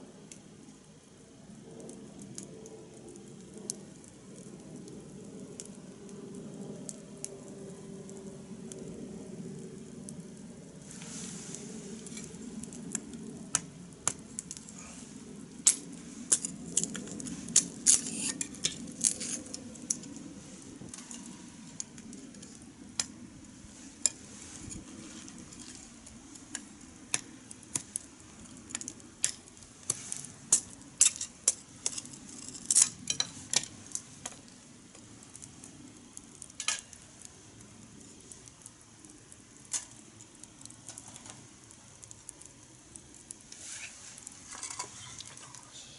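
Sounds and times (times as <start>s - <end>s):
fire crackling and popping: 0.0s - 45.9s
flames rushing: 0.0s - 45.9s.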